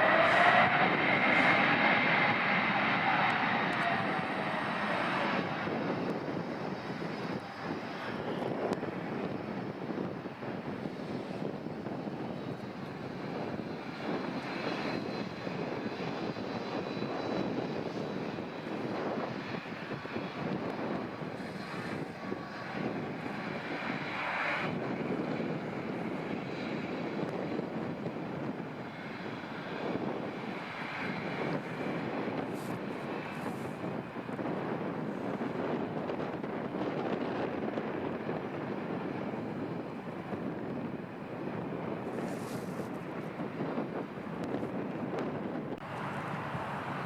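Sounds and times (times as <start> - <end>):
airliner engines running: 0.0 - 47.0.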